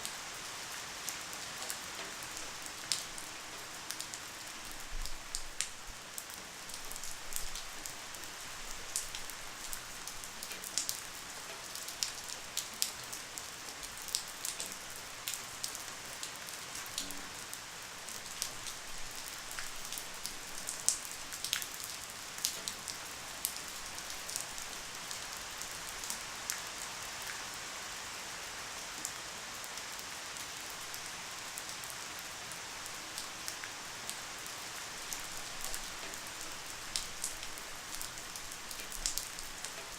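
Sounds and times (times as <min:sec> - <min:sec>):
light rain hiss: 0:00.0 - 0:39.9.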